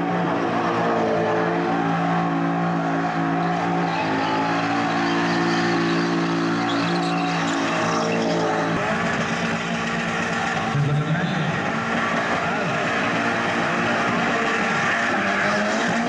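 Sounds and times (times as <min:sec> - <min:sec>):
engine revving high: 0:00.0 - 0:16.0.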